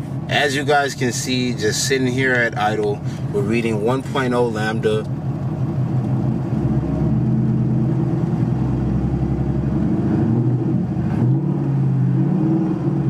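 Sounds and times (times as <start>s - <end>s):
car engine revving: 0.2s - 13.0s.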